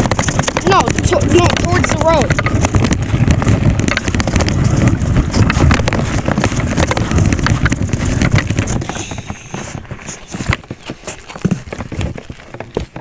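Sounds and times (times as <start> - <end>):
small clicks and rattles: 0.0 - 13.0
wind rumbling over microphone: 0.0 - 13.0.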